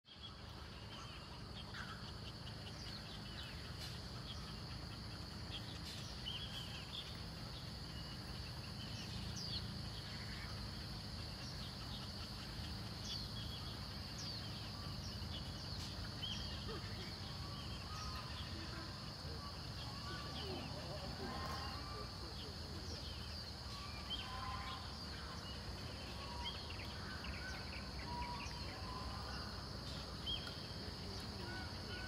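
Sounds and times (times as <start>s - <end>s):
birds chirping: 0.1s - 32.0s.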